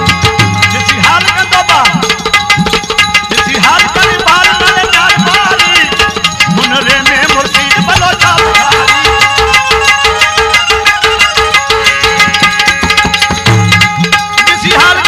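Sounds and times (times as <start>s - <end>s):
tabla: 0.0s - 15.0s.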